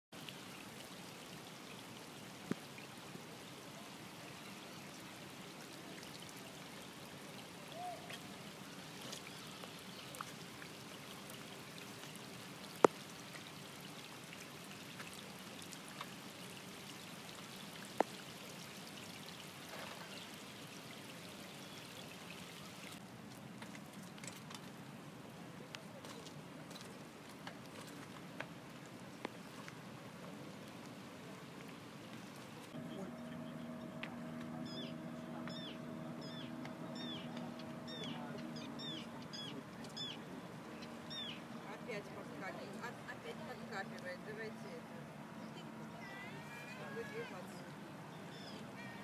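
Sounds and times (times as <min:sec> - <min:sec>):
river water flowing: 0:00.1 - 0:49.0.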